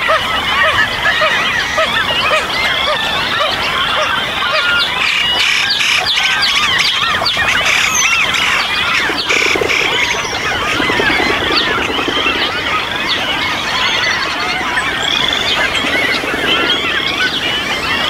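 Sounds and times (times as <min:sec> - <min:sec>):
low rapidly repeated bird call: 0:00.0 - 0:18.0
many birds calling: 0:00.0 - 0:18.0.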